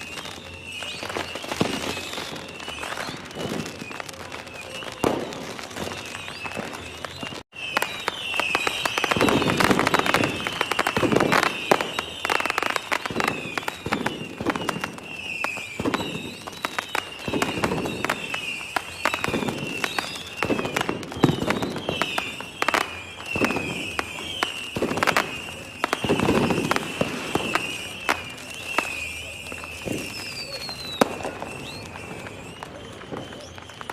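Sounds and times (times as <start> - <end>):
deep fireworks booms: 0.0 - 33.9
fireworks bangs and crackles: 0.0 - 33.9
high wavering whistle: 0.0 - 33.9.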